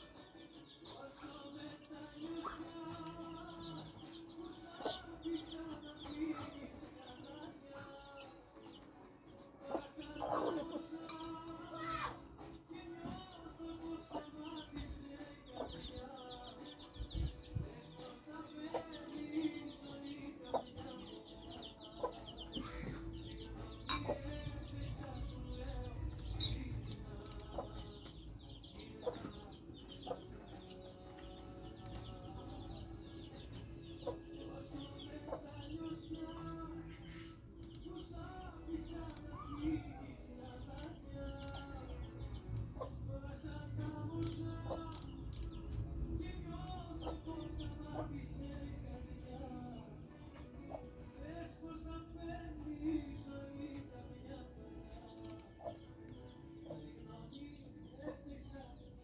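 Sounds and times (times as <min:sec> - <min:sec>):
hen clucking: 0:00.0 - 0:07.5, 0:08.2 - 0:51.6, 0:54.8 - 0:59.0
chicks peeping: 0:00.0 - 0:59.0.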